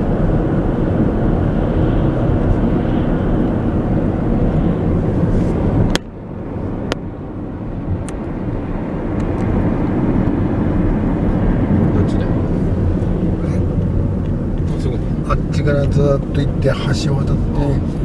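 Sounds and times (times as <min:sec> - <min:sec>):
car low rumble: 0:00.0 - 0:18.0.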